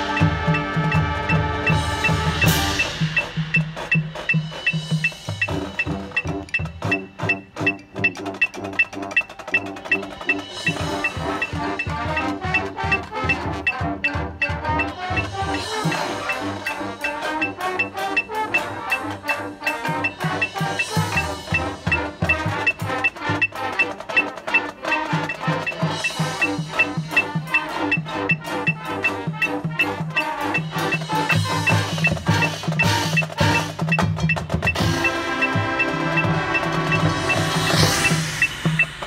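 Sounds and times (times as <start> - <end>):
marching band music with drums: 0.0 - 39.0
metronome clicking: 0.0 - 39.0.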